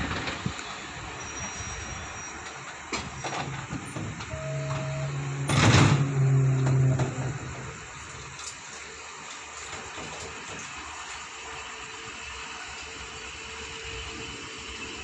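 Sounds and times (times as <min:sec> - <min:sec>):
train low steady hum: 0:00.0 - 0:15.0.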